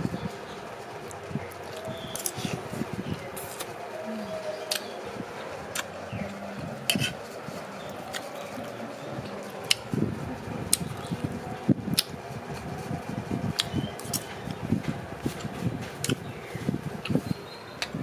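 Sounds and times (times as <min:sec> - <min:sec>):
chewing leafy greens: 0:01.0 - 0:11.3, 0:13.5 - 0:18.0.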